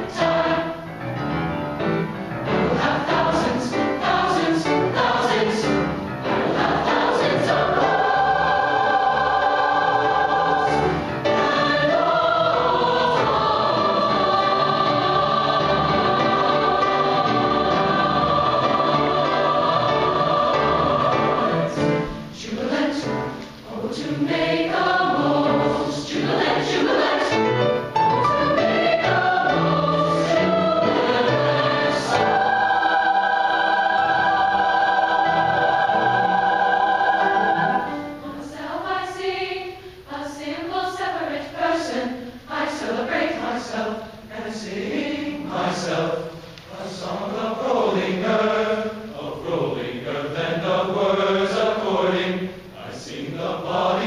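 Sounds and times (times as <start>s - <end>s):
youth choir singing in harmony: 0.0s - 54.0s.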